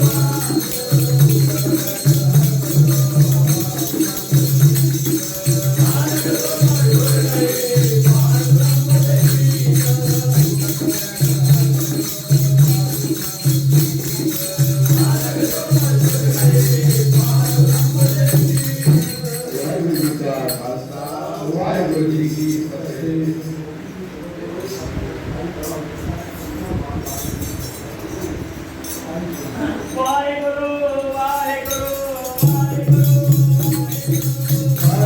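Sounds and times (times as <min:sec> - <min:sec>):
group singing a devotional hymn: 0:00.0 - 0:23.2, 0:29.6 - 0:35.0
jingling percussion beat: 0:00.0 - 0:23.8, 0:25.6 - 0:35.0.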